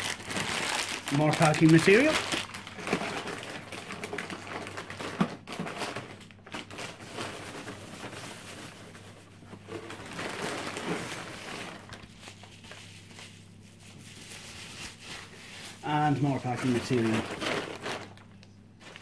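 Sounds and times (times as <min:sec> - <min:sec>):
packing material rustling: 0:00.0 - 0:19.0.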